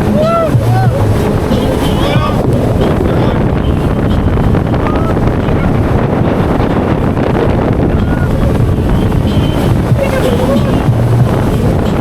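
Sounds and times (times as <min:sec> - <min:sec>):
boat engine running: 0:00.0 - 0:12.0
water rushing past hull: 0:00.0 - 0:12.0
wind buffeting microphone: 0:00.0 - 0:12.0.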